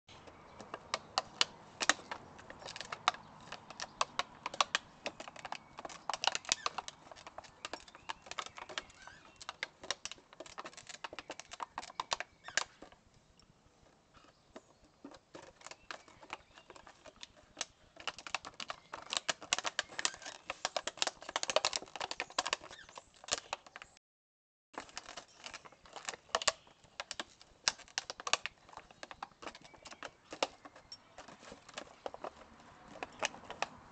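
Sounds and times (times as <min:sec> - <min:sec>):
paws scratching in dirt: 0:00.3 - 0:24.0, 0:24.8 - 0:33.9.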